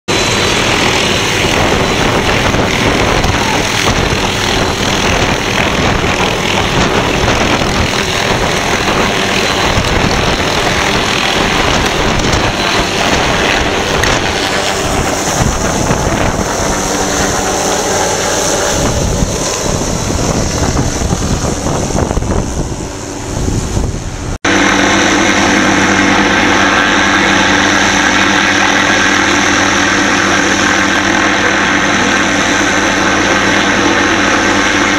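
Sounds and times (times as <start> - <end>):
helicopter engine and rotor: 0.1 - 34.9
wind buffeting on microphone: 0.1 - 34.9.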